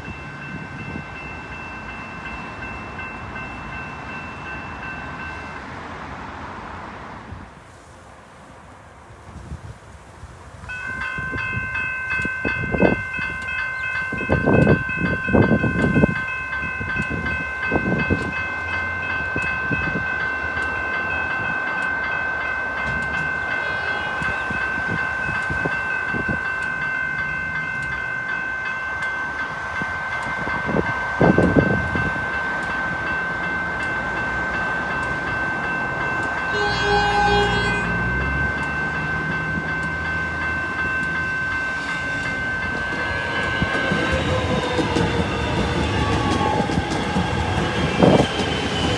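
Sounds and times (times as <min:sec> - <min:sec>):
electric train high-pitched whine: 0:08.4 - 0:48.9.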